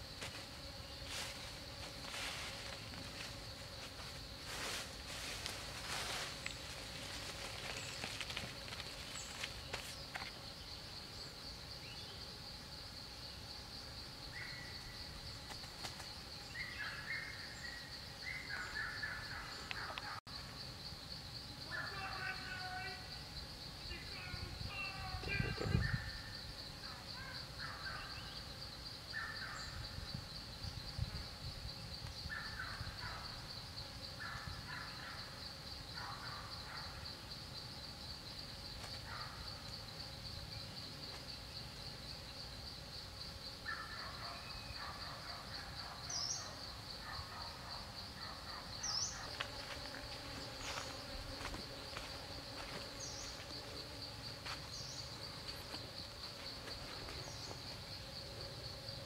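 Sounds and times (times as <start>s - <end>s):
pulsing insect drone: 0.0s - 59.0s.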